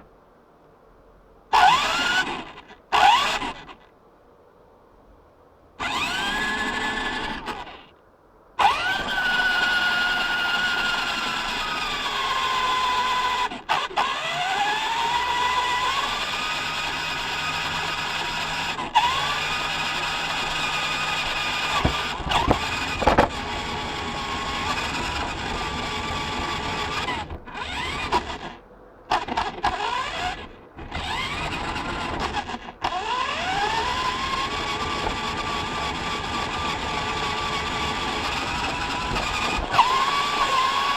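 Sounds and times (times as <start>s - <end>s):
toy truck motor whining: 1.5s - 3.9s, 5.8s - 7.9s, 8.6s - 40.9s.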